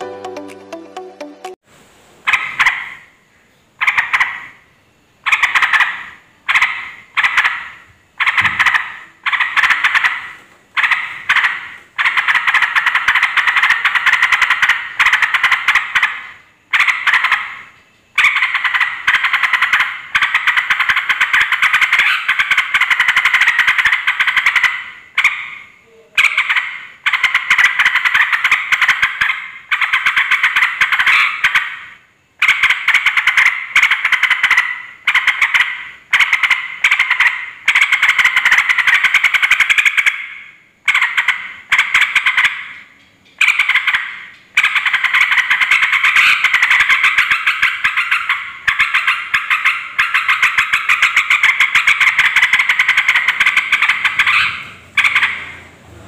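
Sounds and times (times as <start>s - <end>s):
bulbul chattering song: 5.2s - 10.2s, 10.8s - 55.7s.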